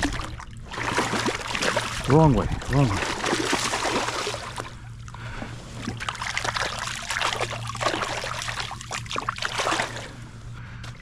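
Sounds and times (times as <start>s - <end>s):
shallow water splashing: 0.0s - 10.4s.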